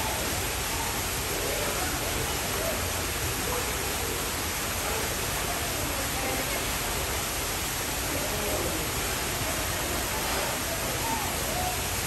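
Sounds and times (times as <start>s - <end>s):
murmur of distant voices: 0.0s - 12.0s
steady rushing hiss: 0.0s - 12.0s.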